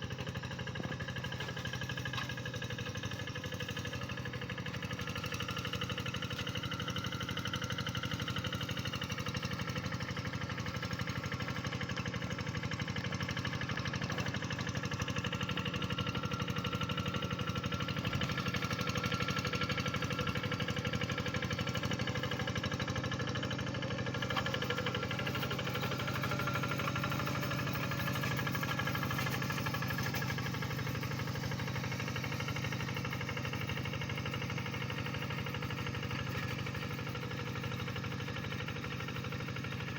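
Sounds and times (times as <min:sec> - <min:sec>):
tractor engine knocking: 0:00.1 - 0:39.9.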